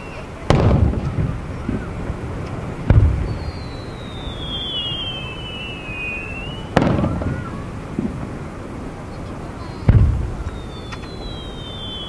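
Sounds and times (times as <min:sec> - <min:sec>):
descending firework whistle: 0:00.0 - 0:12.0
fireworks booming: 0:00.0 - 0:12.0.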